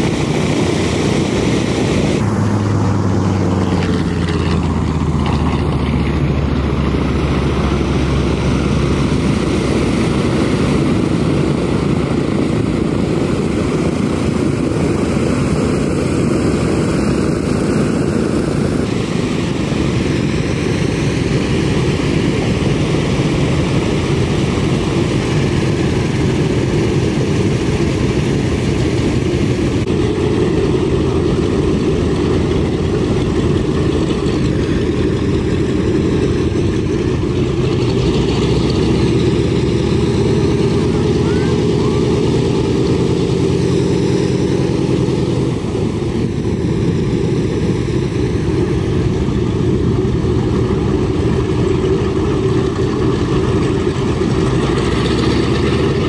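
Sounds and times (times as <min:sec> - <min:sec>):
radial engines taxiing: 0:00.0 - 0:56.0
small plane in flight: 0:00.0 - 0:56.0.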